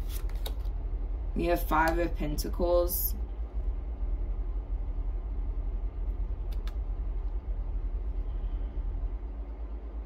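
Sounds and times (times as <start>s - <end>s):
low-pitched hum: 0.0s - 10.0s.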